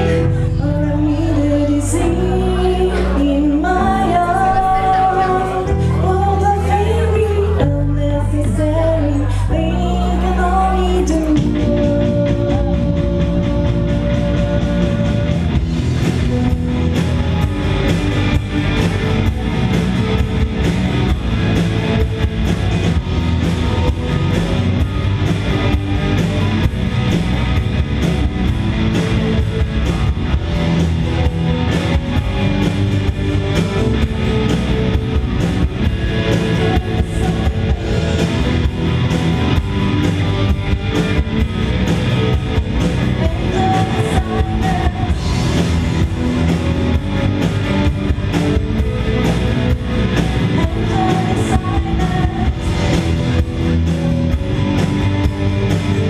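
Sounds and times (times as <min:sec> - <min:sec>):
electric guitars: 0:00.0 - 0:56.0
drum kit: 0:10.2 - 0:56.0.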